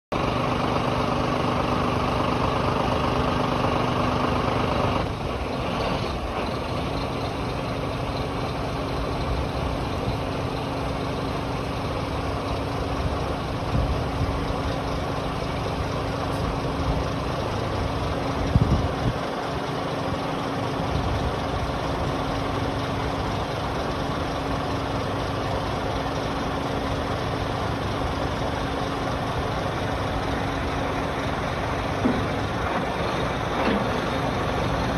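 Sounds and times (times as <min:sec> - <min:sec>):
truck diesel engine running: 0:00.1 - 0:34.9.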